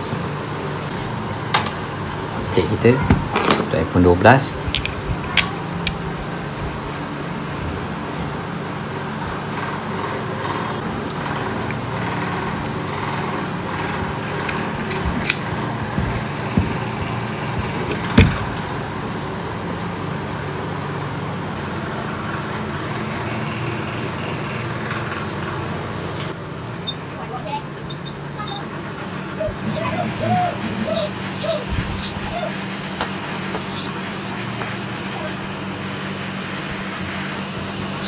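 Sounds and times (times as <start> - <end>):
steady whirring hum: 0.0 - 38.0.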